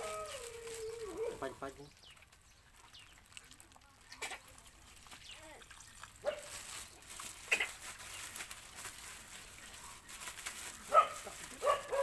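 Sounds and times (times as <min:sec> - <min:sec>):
puppies chewing and lapping: 0:00.0 - 0:12.0.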